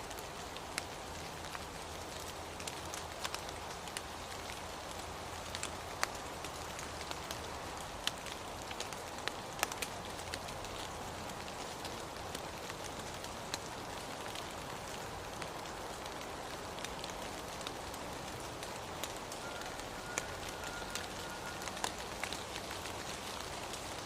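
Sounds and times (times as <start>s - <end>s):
rain drops ticking on a surface: 0.0s - 24.0s
steady rain: 0.0s - 24.0s.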